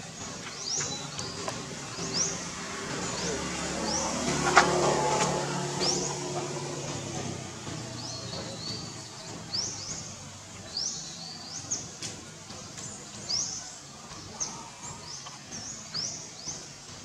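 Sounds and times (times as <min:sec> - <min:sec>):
bird chirping: 0:00.0 - 0:17.0
outdoor background noise: 0:00.0 - 0:17.0.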